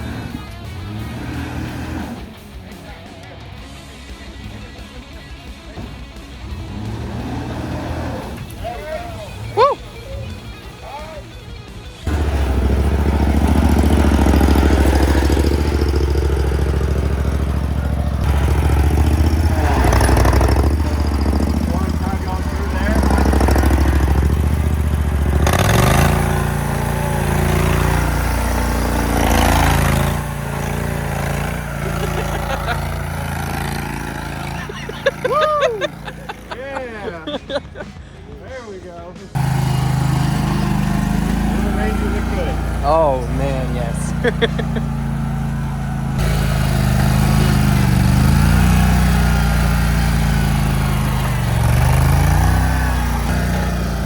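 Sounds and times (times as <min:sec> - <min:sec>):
vehicle engine revving: 0:00.0 - 0:38.0, 0:39.3 - 0:54.0.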